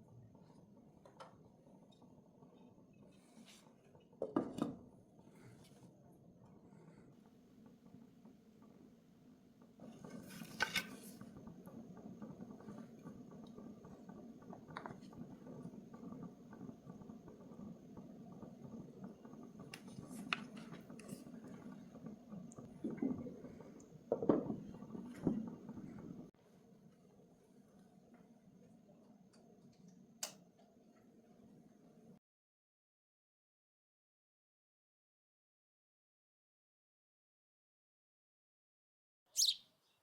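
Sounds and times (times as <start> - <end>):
low kitchen rumble: 0.0 - 32.2.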